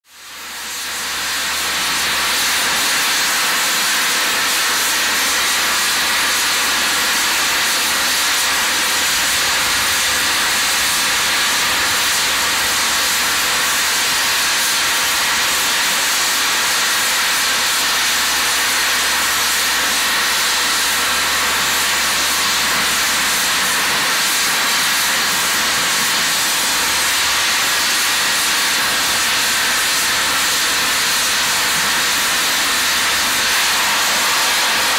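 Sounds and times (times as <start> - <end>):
steam locomotive hissing: 0.4 - 34.9.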